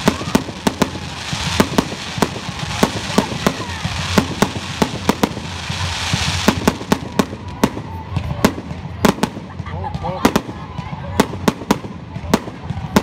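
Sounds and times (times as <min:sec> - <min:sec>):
firework bangs: 0:00.0 - 0:13.0.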